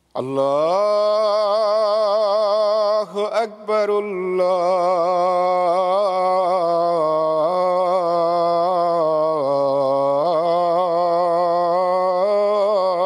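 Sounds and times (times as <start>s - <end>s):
man chanting call to prayer: 0.1s - 13.0s.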